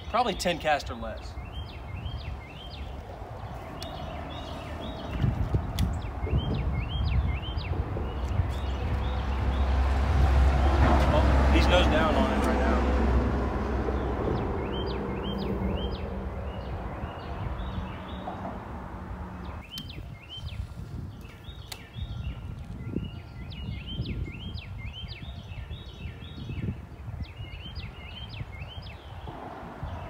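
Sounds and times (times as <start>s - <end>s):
small birds chirping: 0.0s - 9.8s, 14.0s - 18.4s, 19.4s - 30.0s.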